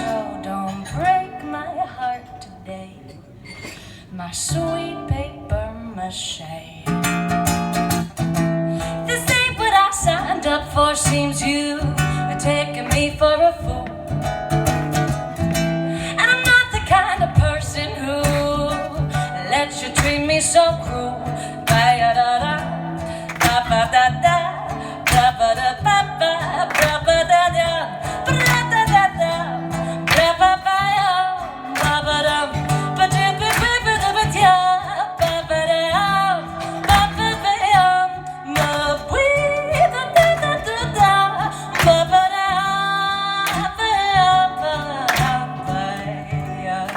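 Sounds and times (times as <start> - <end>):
woman singing: 0.0 - 46.9
strummed ukulele: 7.1 - 46.9.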